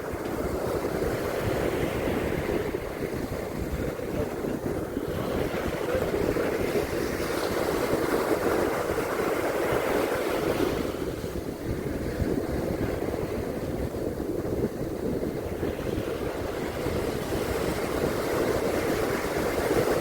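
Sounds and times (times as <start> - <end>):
sea surf washing on beach: 0.0 - 20.0
wind rumbling on microphone: 0.0 - 20.0.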